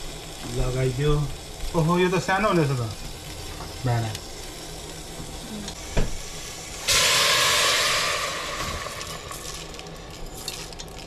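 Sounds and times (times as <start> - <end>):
lentils sizzling in hot pot: 0.0 - 11.0.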